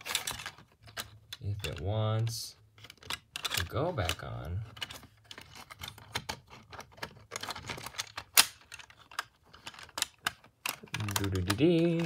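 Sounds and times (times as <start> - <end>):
plastic toy panels clicking: 0.0 - 1.9, 2.8 - 12.0.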